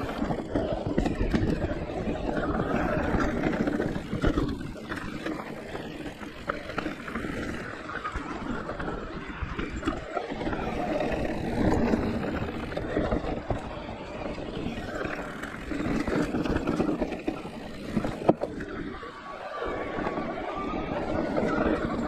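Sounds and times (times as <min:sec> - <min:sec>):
bike rattling and knocking: 0:00.0 - 0:19.1
tyres rumbling over dirt: 0:00.0 - 0:22.0.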